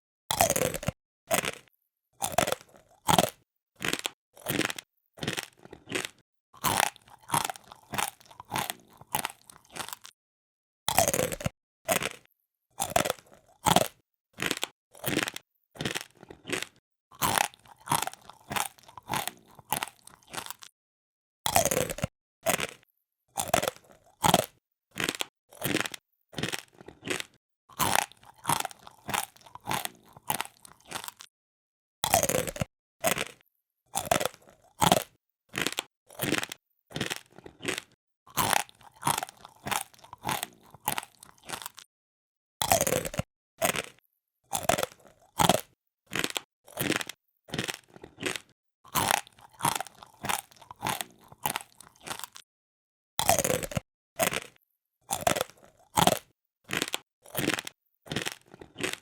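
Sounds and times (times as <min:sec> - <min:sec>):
person chewing crunchy food: 0:00.3 - 0:10.2, 0:10.9 - 0:20.8, 0:21.5 - 0:31.3, 0:32.0 - 0:41.9, 0:42.6 - 0:52.5, 0:53.2 - 0:59.0.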